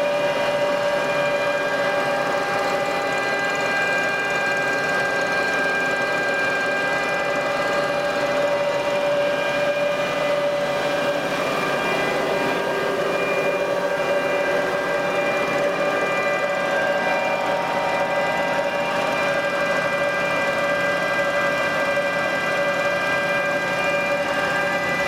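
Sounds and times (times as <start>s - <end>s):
cable winch whining: 0.0s - 25.0s.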